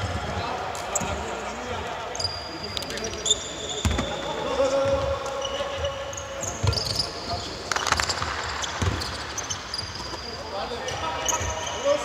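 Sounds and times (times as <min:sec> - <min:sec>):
sneakers squeaking on floor: 0:02.1 - 0:12.0.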